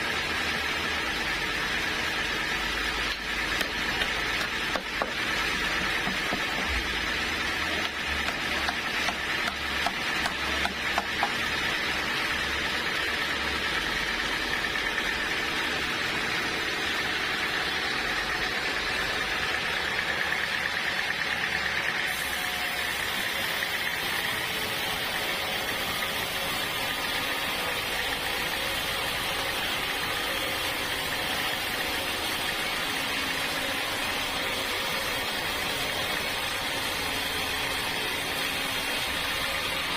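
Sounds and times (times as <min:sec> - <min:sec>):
sawmill sawing a log: 0:00.0 - 0:39.9.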